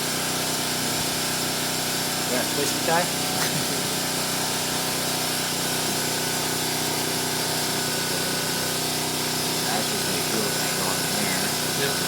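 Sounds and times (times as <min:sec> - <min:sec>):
motor drone with hiss: 0:00.0 - 0:12.0.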